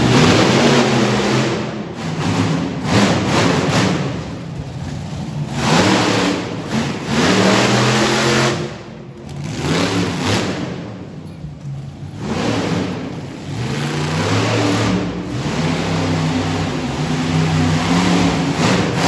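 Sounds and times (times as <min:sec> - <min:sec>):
truck engine revving hard: 0:00.0 - 0:11.1, 0:12.1 - 0:19.0.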